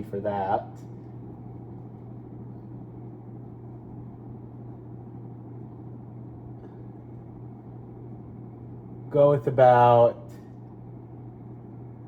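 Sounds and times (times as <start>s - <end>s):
ceiling fan motor hum: 0.0s - 12.0s.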